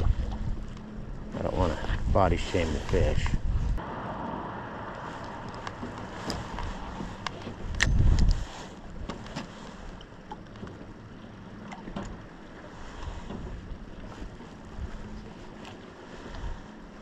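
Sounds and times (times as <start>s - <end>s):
water lapping against boat: 0.0s - 3.8s, 4.5s - 17.0s
wind: 0.0s - 17.0s.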